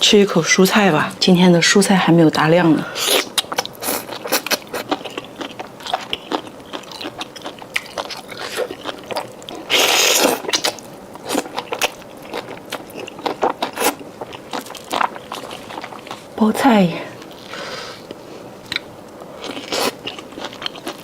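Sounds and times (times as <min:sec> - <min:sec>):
chewing vegetables: 0:03.0 - 0:16.4, 0:17.2 - 0:21.0.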